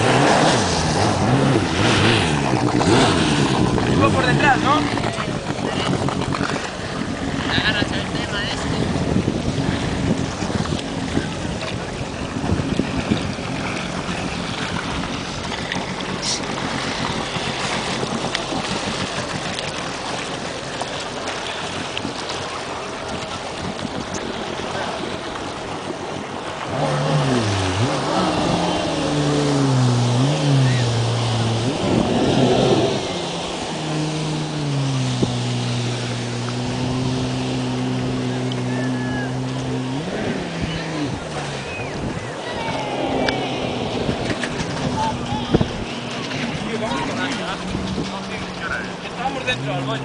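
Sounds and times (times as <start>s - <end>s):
jet ski engine: 0.0s - 50.0s
water splashing: 0.0s - 50.0s
wind: 0.0s - 50.0s.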